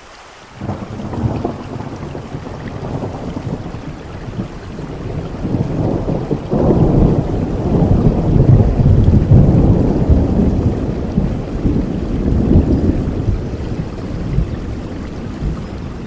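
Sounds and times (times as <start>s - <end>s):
steady rain: 0.0s - 16.0s
rolling thunder: 0.6s - 16.0s.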